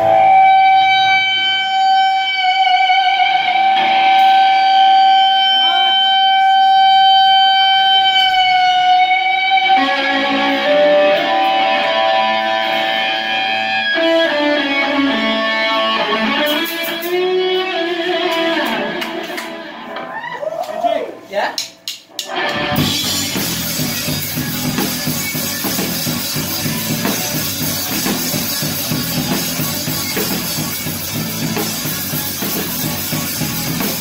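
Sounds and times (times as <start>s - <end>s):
electric guitar notes: 0.0s - 20.3s, 22.1s - 34.0s.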